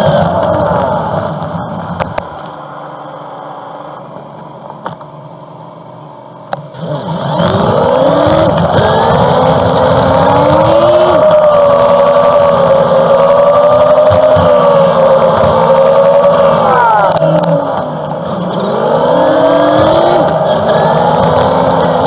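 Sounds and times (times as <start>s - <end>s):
motorcycle engine revving: 0.0s - 2.5s, 6.6s - 22.0s.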